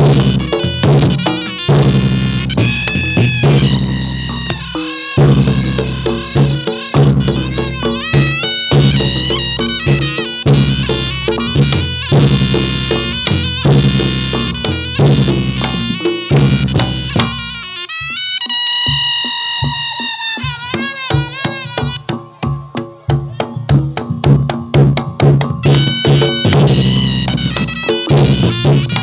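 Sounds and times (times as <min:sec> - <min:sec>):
shawm playing reedy melody: 0:00.0 - 0:24.3, 0:25.4 - 0:29.0
steady drumming: 0:00.0 - 0:29.0.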